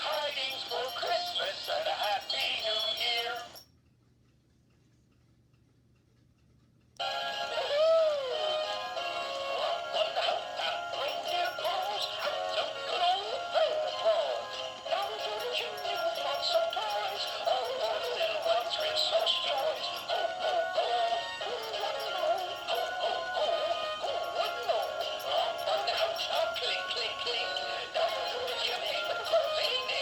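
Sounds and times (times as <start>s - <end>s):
synthesized voice singing: 0.0s - 3.6s, 7.5s - 30.0s
toy playing song through speaker: 0.0s - 3.6s, 7.0s - 30.0s.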